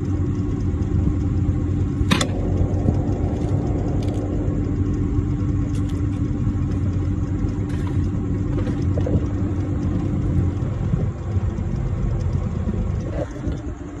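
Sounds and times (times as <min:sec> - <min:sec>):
machine running with hum: 0:00.0 - 0:14.0.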